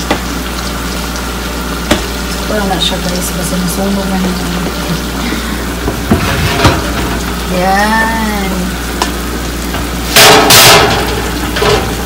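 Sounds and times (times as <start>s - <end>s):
cobbler sizzling in baking dish: 0.0s - 12.0s.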